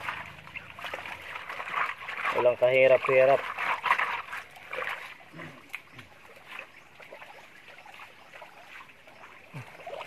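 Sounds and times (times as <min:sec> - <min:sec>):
water trickling over rocks: 0:00.0 - 0:10.0.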